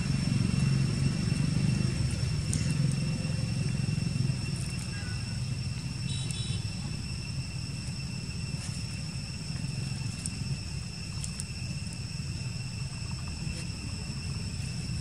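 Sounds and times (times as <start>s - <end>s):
continuous low rumble: 0.0s - 15.0s
insect trill: 0.0s - 15.0s.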